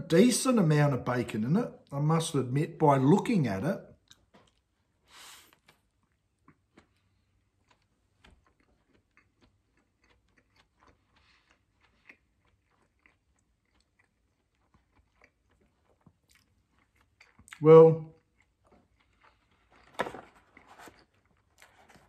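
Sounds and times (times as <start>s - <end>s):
faint chewing: 4.0s - 22.0s.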